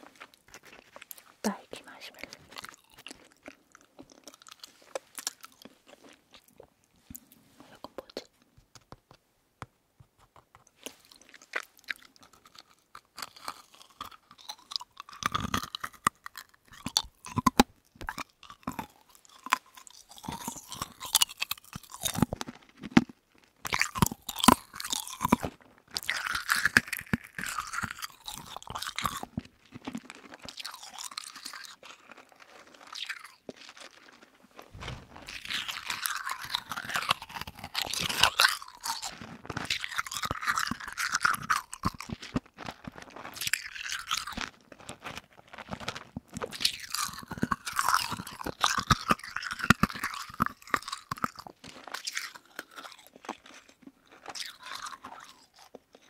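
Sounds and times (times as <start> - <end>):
chewing gummy candy: 0.0 - 8.9, 10.2 - 56.0.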